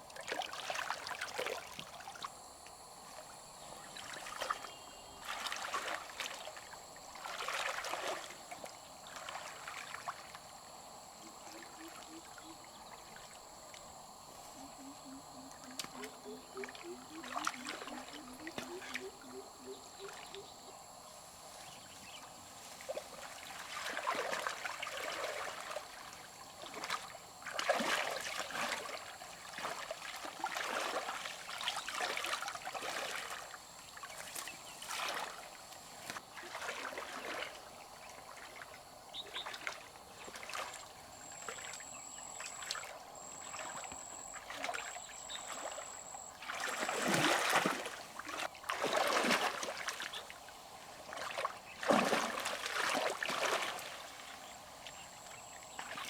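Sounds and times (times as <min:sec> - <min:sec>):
river water splashing: 0:00.0 - 0:02.4, 0:03.0 - 0:14.8, 0:15.4 - 0:20.7, 0:21.6 - 0:56.0
faint steady water flow: 0:00.0 - 0:56.0.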